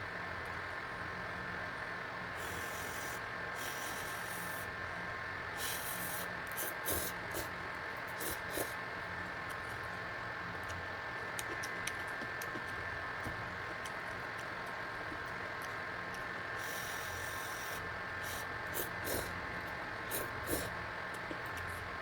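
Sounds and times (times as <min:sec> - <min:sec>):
electric fan running: 0:00.0 - 0:22.0.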